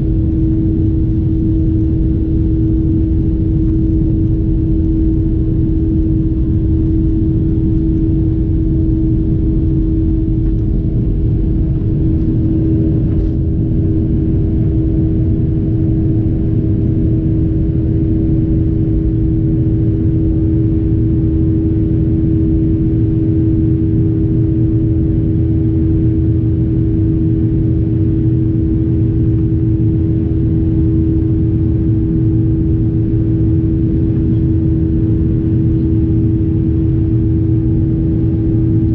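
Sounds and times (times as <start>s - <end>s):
constant hum: 0.0s - 38.9s
jet engine rumble in cabin: 0.0s - 38.9s.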